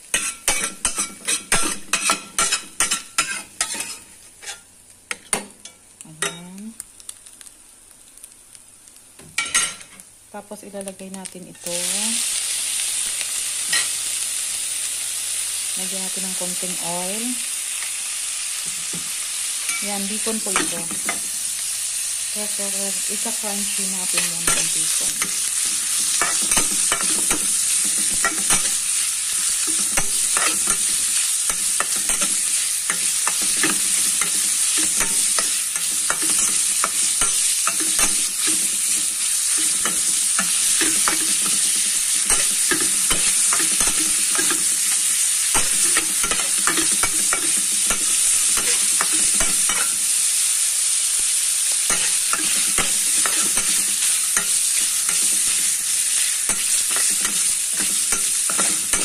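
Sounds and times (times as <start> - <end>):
bacon sizzling in a frying pan: 0.0 - 59.0.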